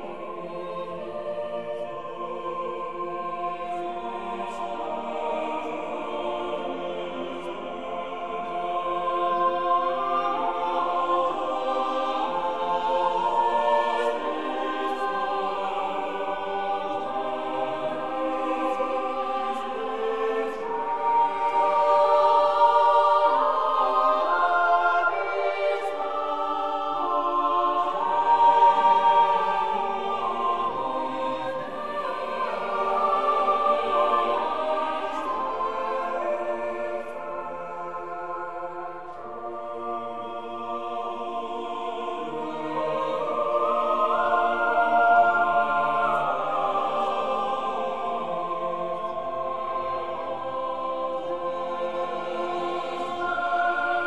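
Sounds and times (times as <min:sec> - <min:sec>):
choir singing held notes: 0:00.0 - 0:54.0.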